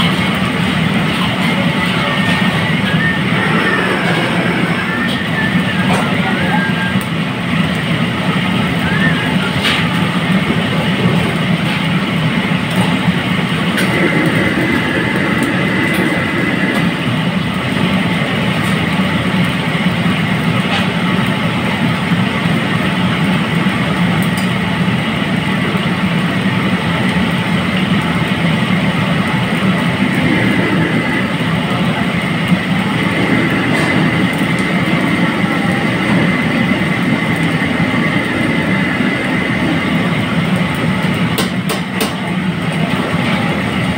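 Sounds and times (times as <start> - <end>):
gas wok burner roaring: 0.0 - 43.9
kitchen exhaust running: 0.0 - 43.9.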